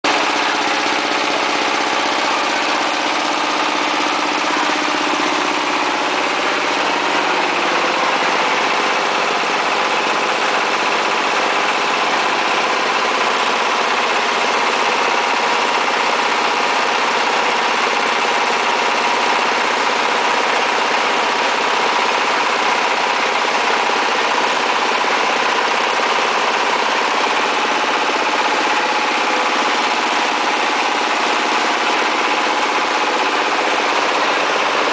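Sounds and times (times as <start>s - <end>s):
diesel engine running: 0.0s - 34.9s
machine humming and clattering: 0.0s - 34.9s.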